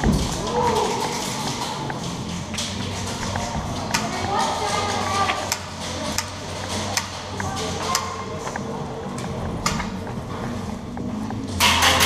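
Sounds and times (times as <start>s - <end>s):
faint music: 0.0s - 12.0s
sharp clicks and knocks: 0.0s - 12.0s
steady low hum: 0.0s - 12.0s.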